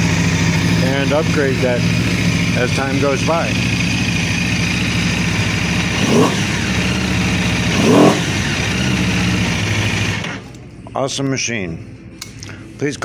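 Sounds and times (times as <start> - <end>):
throttle revs: 0.0 - 10.4
motorcycle engine idling: 0.0 - 10.5.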